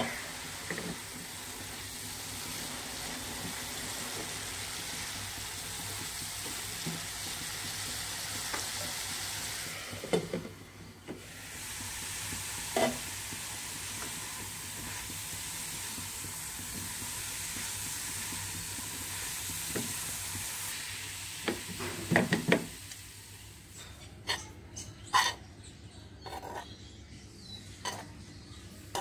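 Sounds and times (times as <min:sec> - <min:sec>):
food sizzling in a frying pan: 0:00.0 - 0:24.5.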